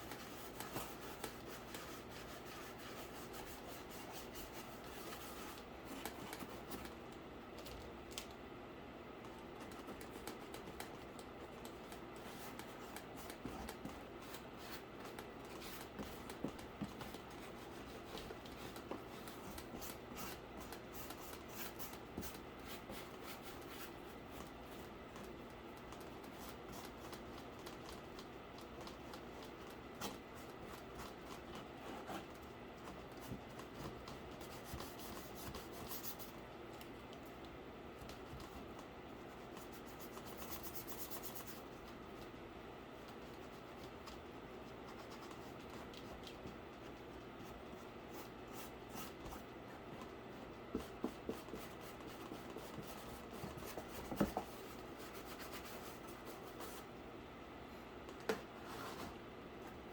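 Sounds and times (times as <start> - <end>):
rubbing and scratching: 0.0 - 7.0, 11.6 - 36.4, 38.0 - 42.4, 43.0 - 56.9.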